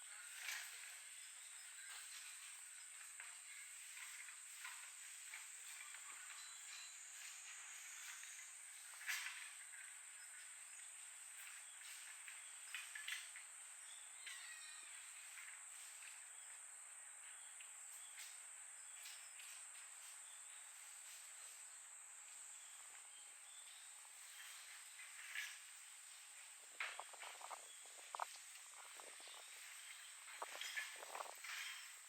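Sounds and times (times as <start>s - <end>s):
insects trilling: 0.0s - 32.0s
soft rustles and ticks: 0.0s - 32.0s.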